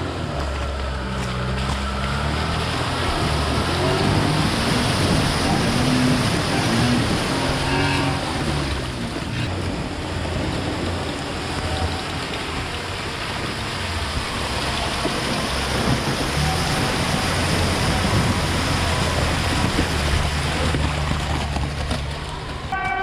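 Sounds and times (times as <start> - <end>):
engine revving under load: 0.0 - 22.6.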